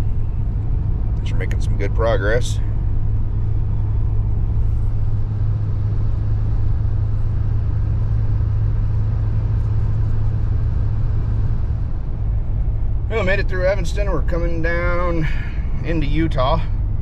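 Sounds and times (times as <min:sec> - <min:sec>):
engine and road noise in cab: 0:00.0 - 0:17.0.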